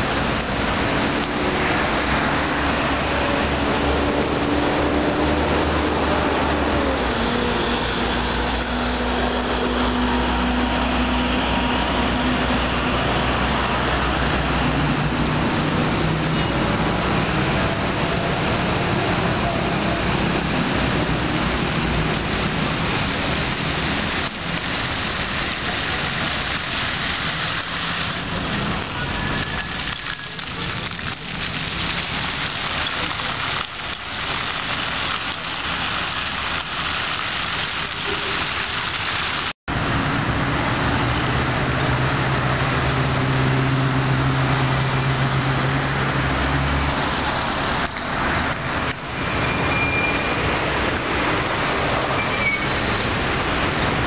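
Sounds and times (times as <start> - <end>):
fountain water splashing: 0.0 - 54.0
street traffic: 0.0 - 54.0.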